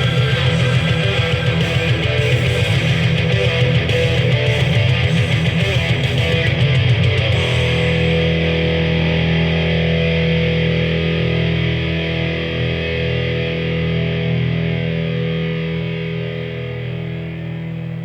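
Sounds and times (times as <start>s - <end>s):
distorted electric guitar chord: 0.0s - 18.0s.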